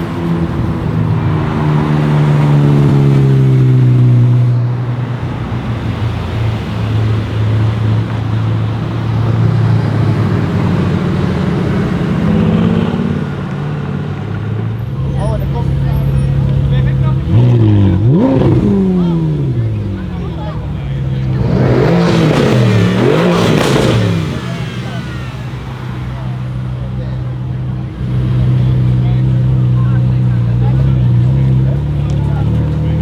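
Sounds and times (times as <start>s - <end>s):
loud car exhaust at low revs: 6.4s - 33.0s.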